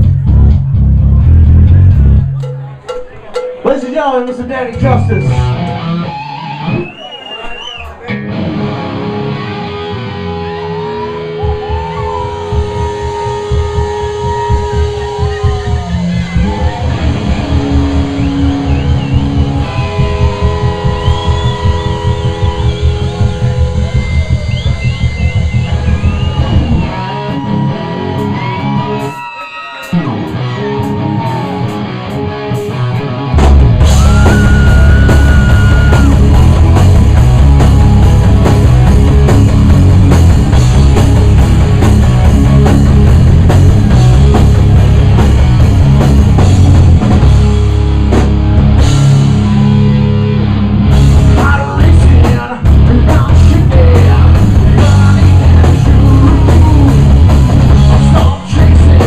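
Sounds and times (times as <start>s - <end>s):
rock band playing: 0.0s - 59.0s
electric guitar bending notes: 4.4s - 7.0s, 8.1s - 29.1s, 29.8s - 59.0s.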